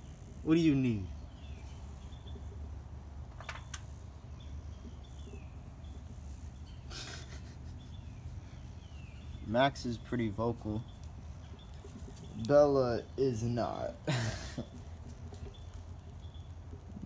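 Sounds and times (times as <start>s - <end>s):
bird chirping: 0.4s - 2.7s, 3.4s - 14.0s, 14.6s - 17.0s.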